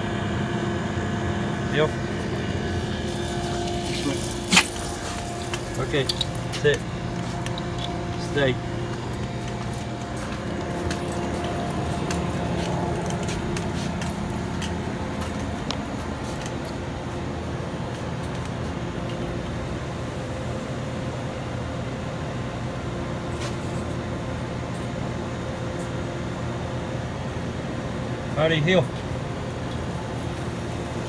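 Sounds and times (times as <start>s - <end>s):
machinery hum: 0.0s - 31.0s.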